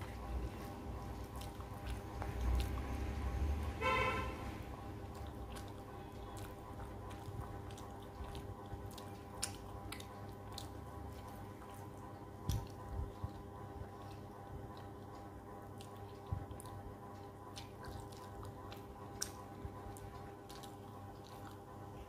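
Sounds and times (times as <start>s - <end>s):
mouth clicks and smacks: 0.0s - 3.4s, 4.8s - 21.9s
wet squishy chewing: 0.0s - 22.0s.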